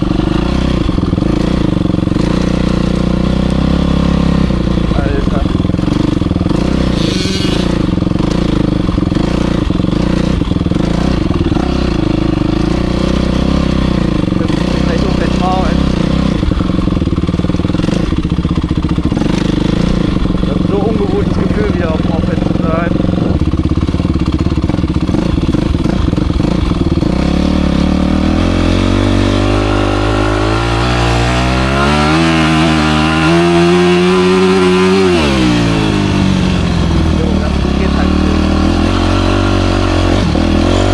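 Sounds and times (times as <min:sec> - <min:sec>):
motocross bike engine: 0:00.0 - 0:40.9.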